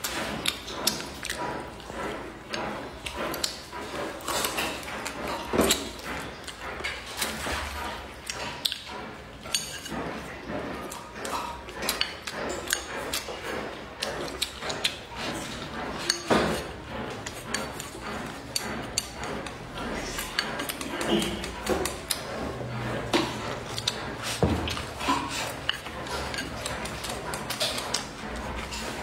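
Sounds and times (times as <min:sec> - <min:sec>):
chopsticks clicking against bowl: 0:00.0 - 0:07.3, 0:08.2 - 0:10.1, 0:10.8 - 0:15.0, 0:15.8 - 0:22.5, 0:23.4 - 0:29.0
chewing: 0:00.0 - 0:29.0.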